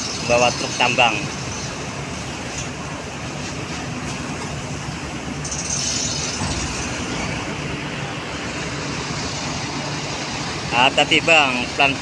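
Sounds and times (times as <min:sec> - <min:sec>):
diesel engines rumbling: 0:00.0 - 0:12.0.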